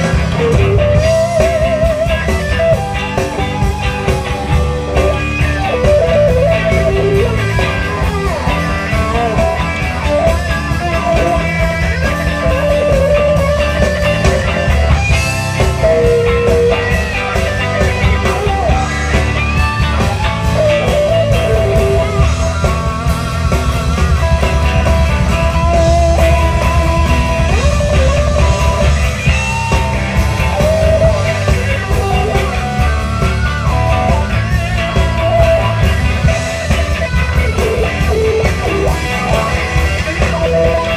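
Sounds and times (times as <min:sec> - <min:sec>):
bass guitar: 0:00.0 - 0:40.9
drums: 0:00.0 - 0:40.9
electric guitar solo: 0:00.0 - 0:40.9.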